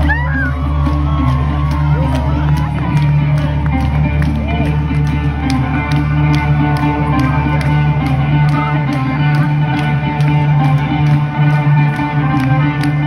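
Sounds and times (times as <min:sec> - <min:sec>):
electric guitar: 0:00.0 - 0:13.0.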